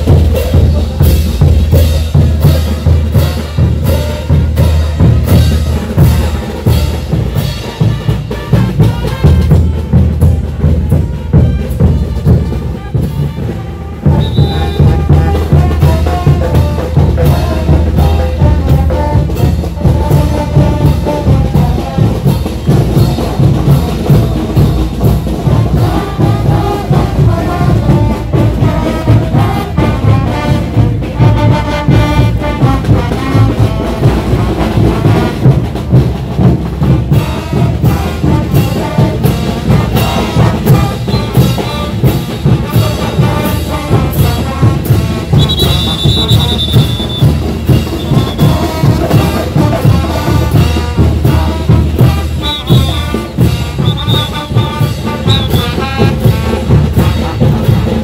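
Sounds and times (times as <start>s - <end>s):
bass and snare drums: 0.0s - 58.0s
brass band playing: 0.0s - 58.0s.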